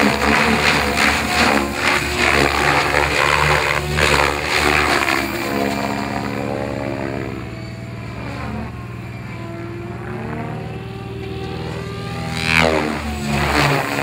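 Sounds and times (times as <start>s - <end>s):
model helicopter rotor chop: 0.0s - 14.0s.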